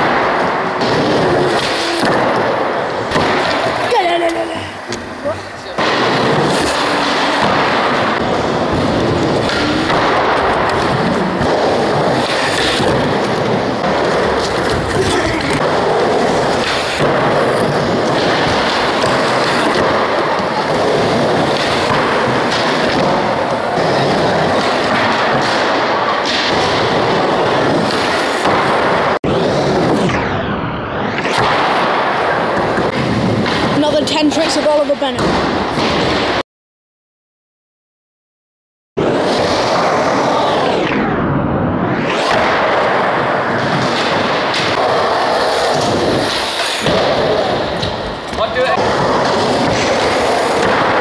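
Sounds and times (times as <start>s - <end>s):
skateboard wheels rolling: 0.0s - 30.3s, 31.0s - 34.6s, 39.0s - 41.1s, 41.9s - 51.0s.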